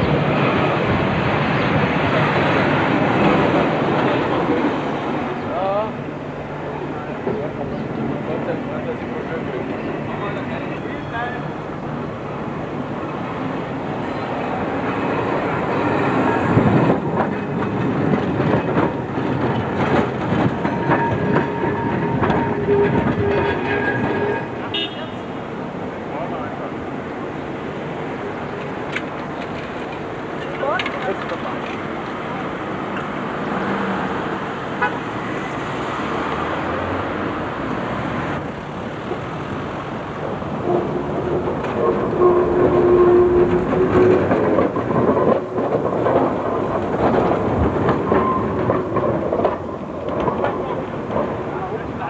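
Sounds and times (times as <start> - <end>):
city street traffic: 0.0 - 52.0
tram wheels clattering over rail joints: 0.0 - 52.0.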